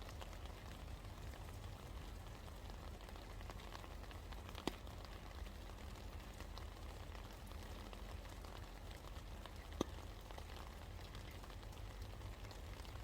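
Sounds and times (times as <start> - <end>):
low steady rumble: 0.0 - 13.0
steady rain hissing: 0.0 - 13.0
water drips: 0.0 - 13.0.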